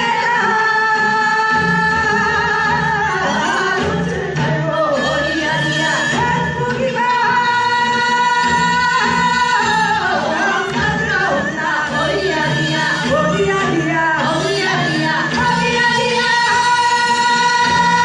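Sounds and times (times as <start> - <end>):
music with singing: 0.0 - 18.0.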